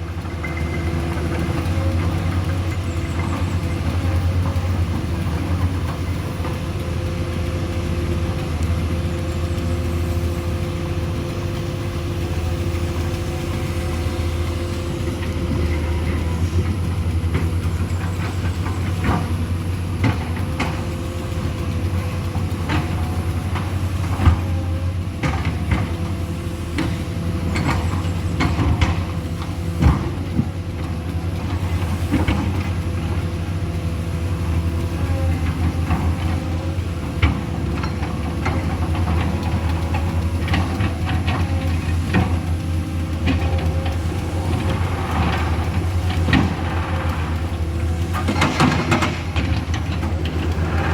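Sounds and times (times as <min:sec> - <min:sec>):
heavy engine rumbling: 0:00.0 - 0:50.9.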